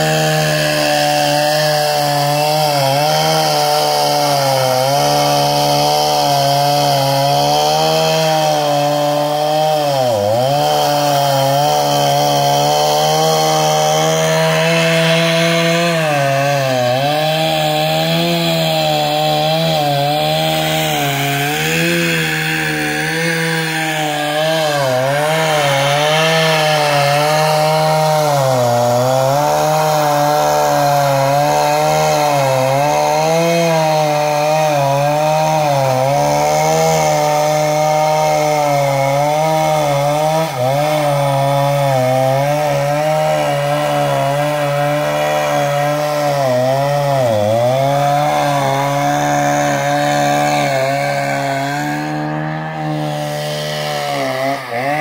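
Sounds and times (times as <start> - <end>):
chainsaw cutting tree: 0.0 - 55.0.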